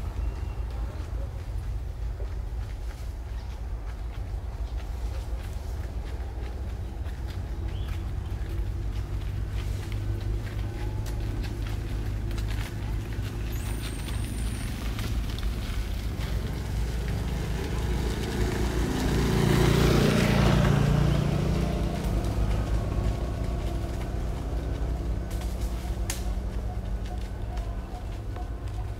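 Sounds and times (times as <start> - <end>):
vehicle engine passing by: 0.0 - 28.9.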